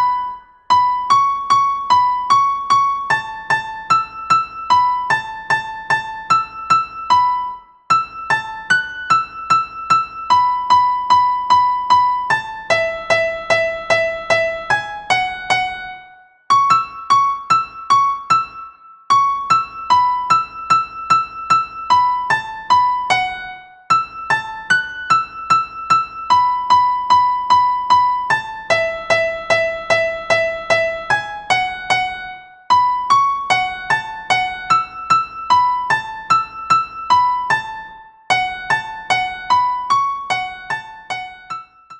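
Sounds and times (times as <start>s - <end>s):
light keyboard tune: 0.0s - 41.9s.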